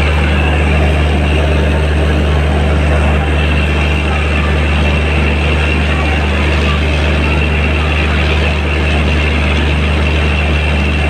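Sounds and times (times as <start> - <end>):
cooling blowers rushing: 0.0 - 11.0
locomotive transformer hum: 0.0 - 11.0.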